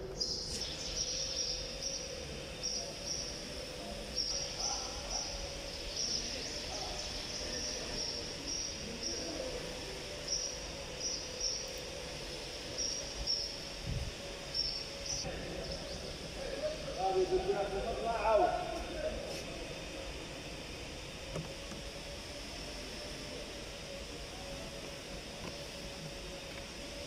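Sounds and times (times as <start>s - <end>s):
faint steady hum: 0.0s - 27.0s
insects chirping: 0.0s - 27.0s.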